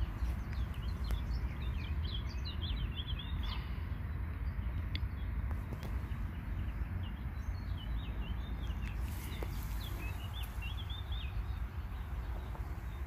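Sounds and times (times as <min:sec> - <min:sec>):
low outdoor rumble: 0:00.0 - 0:13.0
songbird chirping: 0:00.0 - 0:13.0.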